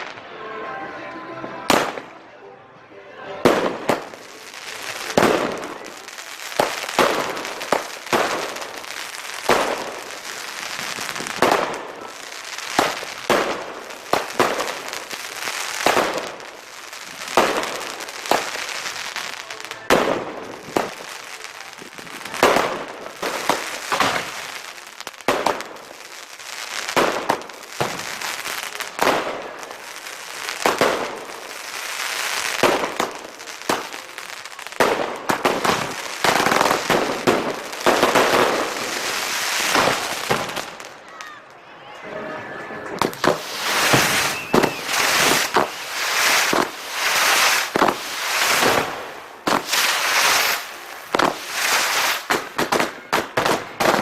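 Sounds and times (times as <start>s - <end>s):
fireworks crackling and hissing: 0.0s - 0.6s, 1.6s - 2.2s, 3.4s - 41.6s, 43.0s - 54.0s
fireworks bangs: 1.6s - 2.2s, 3.4s - 41.4s, 42.8s - 54.0s.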